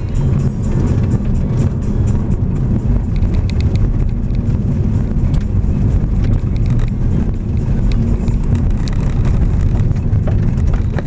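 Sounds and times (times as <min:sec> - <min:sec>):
car tyres rumbling on gravel: 0:00.0 - 0:11.0
sharp ticks: 0:00.0 - 0:11.0.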